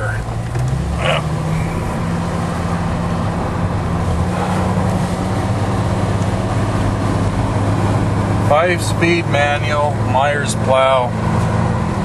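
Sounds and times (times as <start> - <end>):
engine low drone: 0.0 - 12.0.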